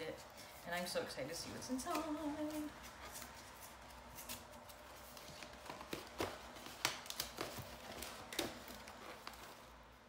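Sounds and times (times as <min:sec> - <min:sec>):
wrapping paper rustling and crinkling: 0:00.0 - 0:10.0.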